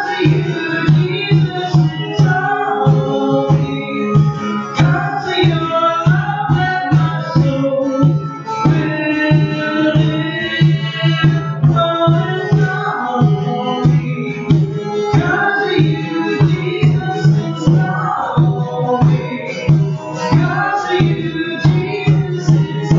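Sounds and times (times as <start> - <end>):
acoustic guitar: 0.0 - 22.9
conga drums beating: 0.0 - 22.9.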